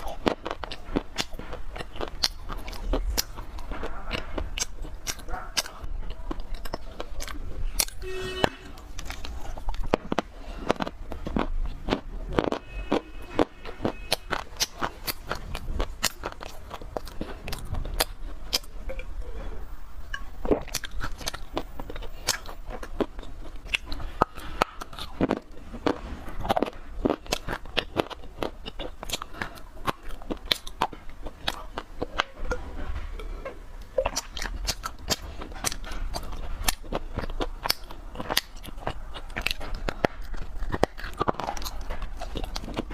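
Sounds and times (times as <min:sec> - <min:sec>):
clay crunching and crackling: 0:00.0 - 0:42.9.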